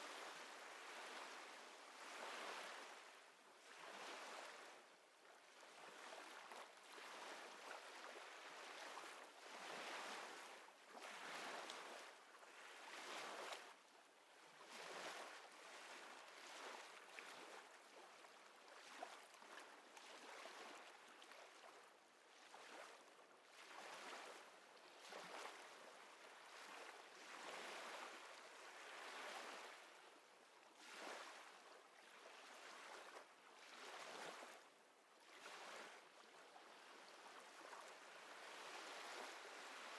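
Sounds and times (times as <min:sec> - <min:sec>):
small waves lapping: 0:05.8 - 0:13.7, 0:14.6 - 0:30.2, 0:30.8 - 0:39.9.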